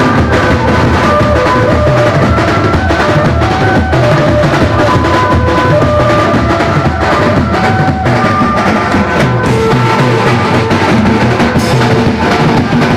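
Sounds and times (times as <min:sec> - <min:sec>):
bass drums and cymbals: 0:00.0 - 0:12.9
held-note melody: 0:00.0 - 0:12.9.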